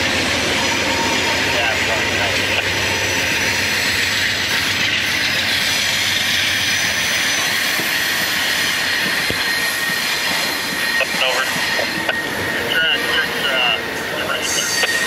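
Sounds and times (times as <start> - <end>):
diesel locomotives under power: 0.0 - 15.0.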